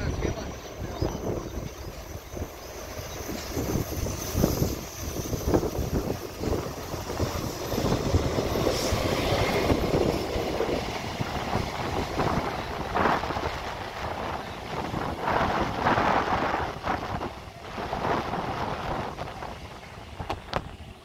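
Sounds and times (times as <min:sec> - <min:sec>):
electric train rumbling and rattling: 0:00.0 - 0:21.0
wind buffeting microphone: 0:00.0 - 0:21.0.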